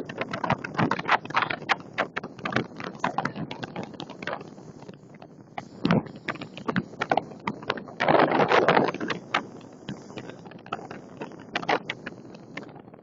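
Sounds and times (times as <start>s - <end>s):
wind buffeting the microphone: 0.0s - 12.7s.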